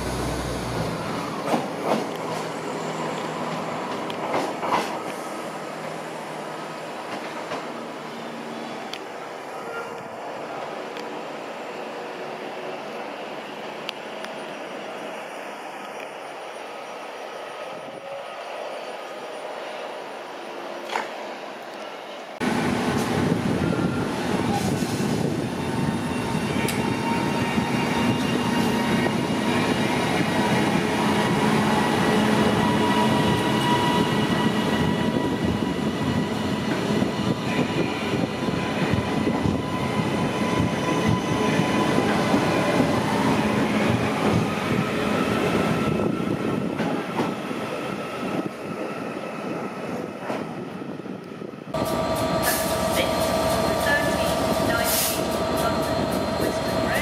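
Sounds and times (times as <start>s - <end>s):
train wheels on rails: 0.0s - 11.9s, 20.8s - 57.0s.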